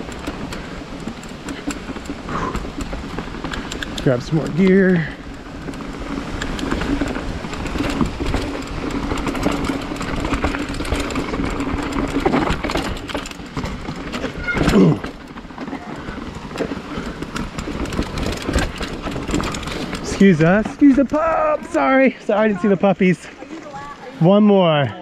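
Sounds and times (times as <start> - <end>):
bike clattering over rocks: 0.0 - 25.0
tyres crunching over dirt and stones: 0.0 - 25.0.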